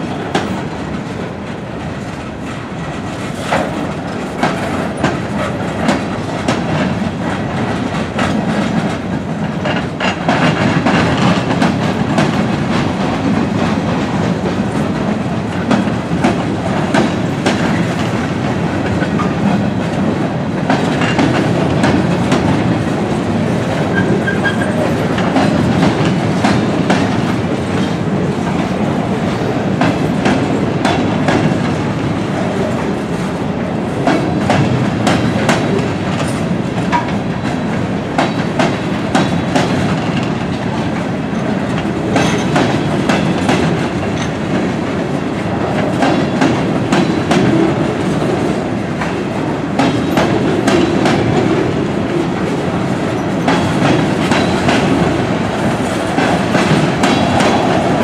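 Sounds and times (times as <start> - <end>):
wheels clanking over rail joints: 0.0 - 33.3, 33.9 - 44.8, 49.8 - 58.0
train wheels rumbling on rail: 0.0 - 58.0.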